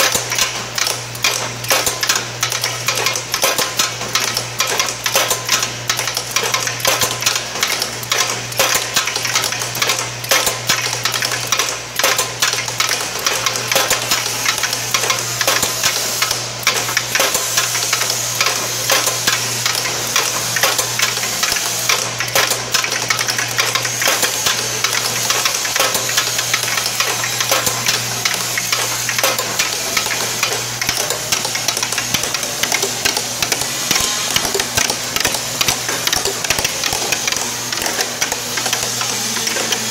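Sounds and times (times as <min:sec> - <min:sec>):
rattle of fast clicks: 0:00.0 - 0:39.9.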